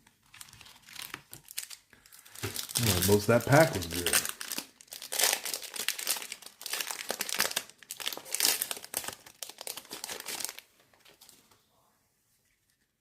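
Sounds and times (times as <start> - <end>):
wrapper crinkling and tearing: 0.2 - 11.3.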